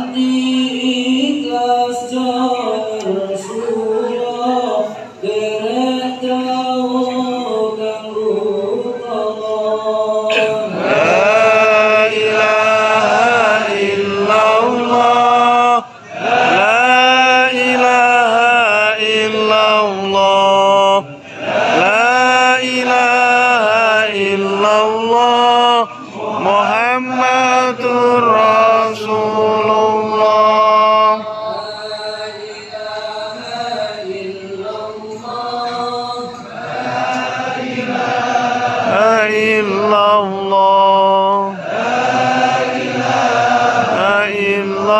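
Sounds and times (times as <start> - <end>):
men chanting devotional phrases: 0.0 - 44.9.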